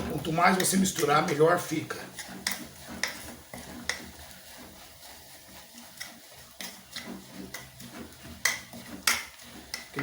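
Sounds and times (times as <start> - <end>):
spoon scraping and knocking a pot: 0.0 - 10.0.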